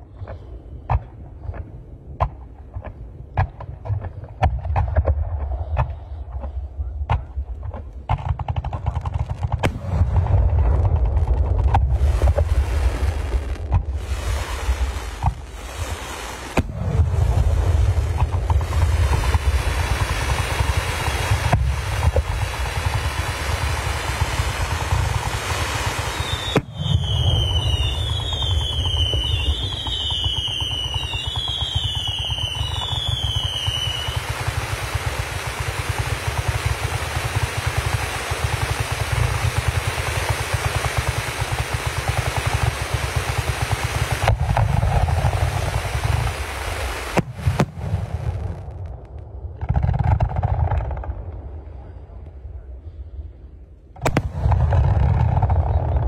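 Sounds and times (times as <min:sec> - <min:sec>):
fireworks launching and bursting: 0:00.9 - 0:51.7, 0:54.0 - 0:56.0
whistling firework: 0:09.3 - 0:52.7, 0:54.0 - 0:56.0.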